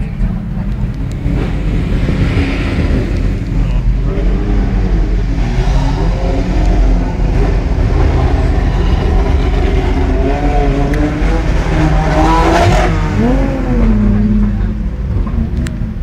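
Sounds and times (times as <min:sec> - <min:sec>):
race car engines rumbling: 0:00.0 - 0:16.0.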